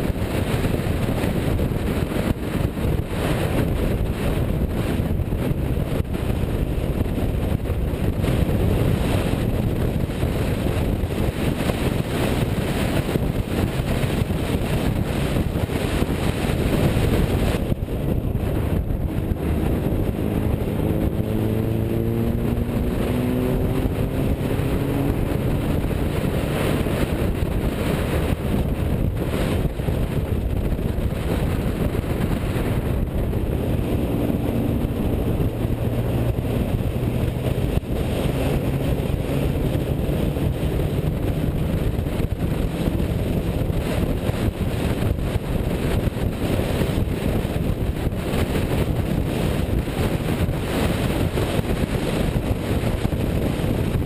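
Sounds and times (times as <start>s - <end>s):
car engine running: 0.0s - 54.0s
road and wind noise: 0.0s - 54.0s.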